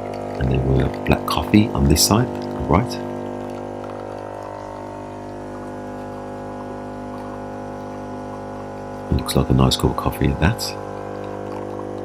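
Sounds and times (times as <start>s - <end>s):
coffee machine pump humming: 0.0s - 12.0s
liquid running into cups: 0.0s - 12.0s.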